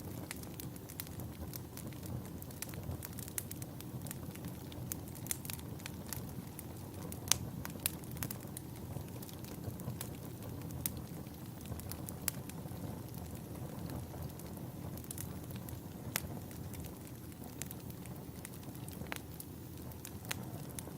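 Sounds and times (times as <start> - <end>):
wood fire crackling and popping: 0.0 - 20.9.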